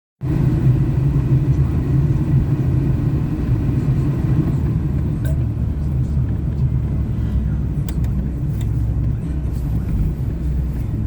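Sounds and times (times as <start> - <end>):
vehicle engine humming: 0.2 - 11.0.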